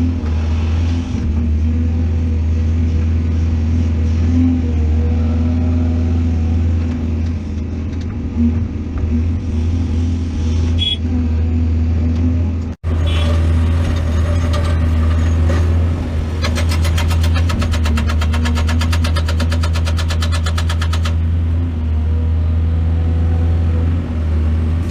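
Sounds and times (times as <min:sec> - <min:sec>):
diesel machinery engine hum: 0:00.0 - 0:24.9.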